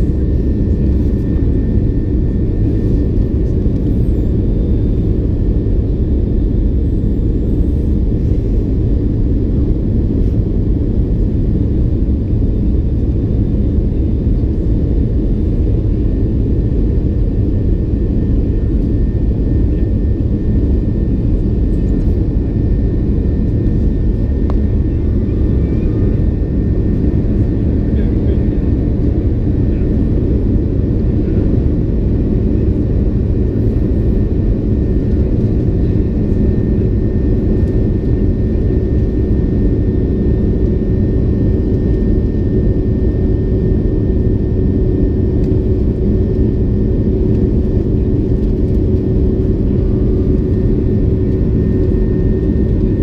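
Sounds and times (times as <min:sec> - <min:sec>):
jet airliner cabin drone: 0:00.0 - 0:53.0.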